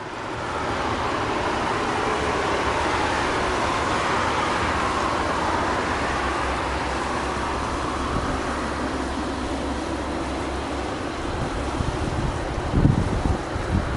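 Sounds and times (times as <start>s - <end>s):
outdoor rushing noise: 0.0s - 13.9s.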